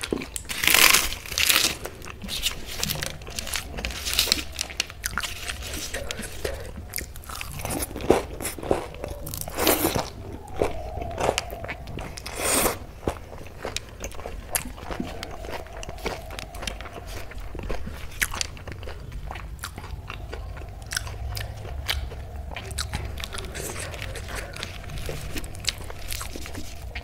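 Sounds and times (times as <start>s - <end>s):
chewing and crunching food: 0.0s - 27.0s.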